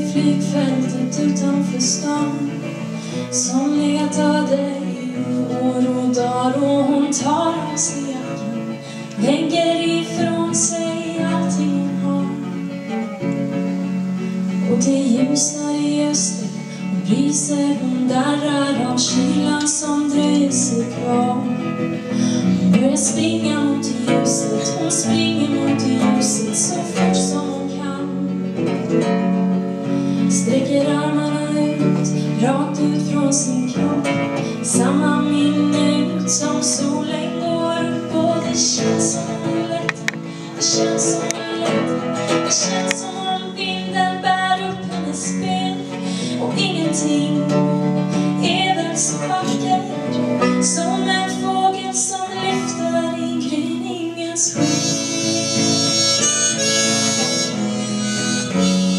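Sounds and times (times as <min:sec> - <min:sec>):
guitar accompaniment: 0:00.0 - 0:58.9
woman singing: 0:00.0 - 0:58.9.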